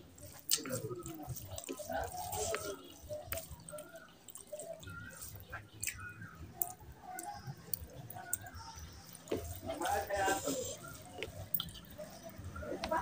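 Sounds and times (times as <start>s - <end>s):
hand squishing rice and curry: 0.0s - 13.0s
wet smacking while eating: 0.2s - 13.0s.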